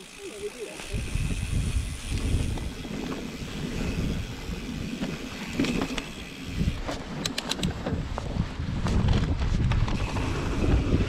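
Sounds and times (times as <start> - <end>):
wind buffeting microphone: 0.8 - 11.0.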